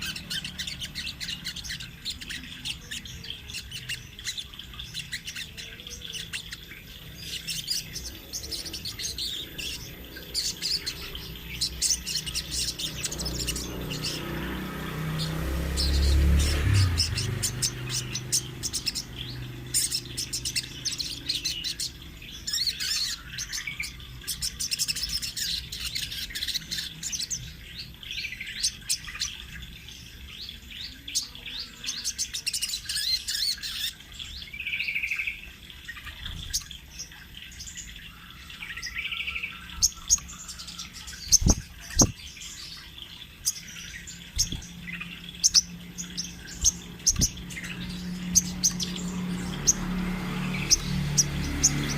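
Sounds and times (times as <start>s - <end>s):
songbird chirping and trilling: 0.0s - 51.9s.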